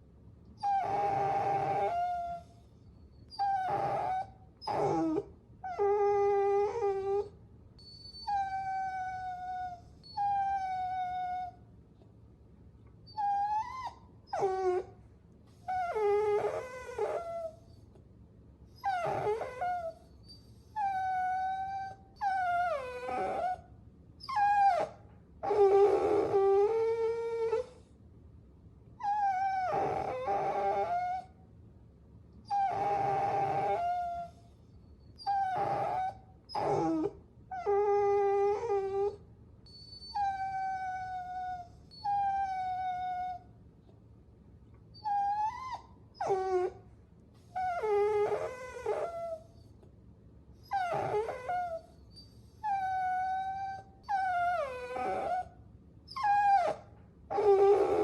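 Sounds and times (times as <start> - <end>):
puppies whining: 0.6 - 11.6, 13.1 - 14.9, 15.6 - 17.9, 18.8 - 23.6, 24.2 - 27.8, 29.0 - 31.3, 32.4 - 43.5, 44.9 - 46.8, 47.4 - 49.7, 50.6 - 58.0.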